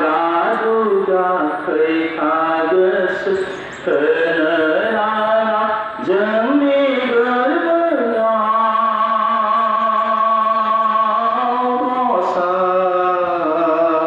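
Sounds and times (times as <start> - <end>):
slow chant-like singing: 0.0 - 14.0.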